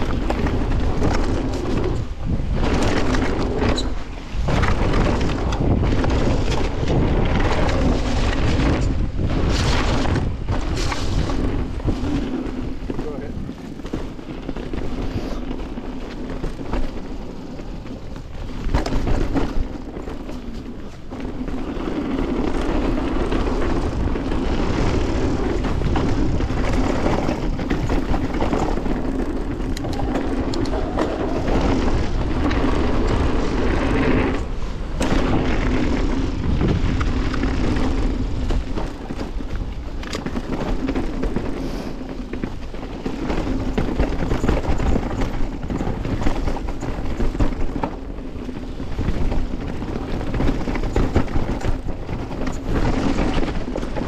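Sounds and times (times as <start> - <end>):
bike rattling over bumps: 0.0 - 54.0
tyres rolling over dirt and rocks: 0.0 - 54.0
wind rushing over microphone: 0.0 - 54.0.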